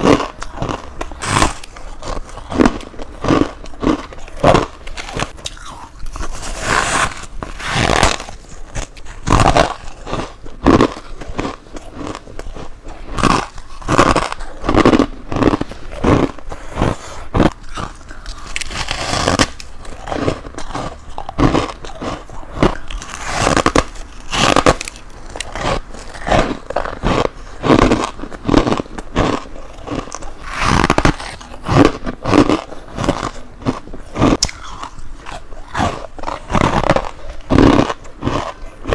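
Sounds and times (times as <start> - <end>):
biting and crunching ice: 0.0 - 38.9.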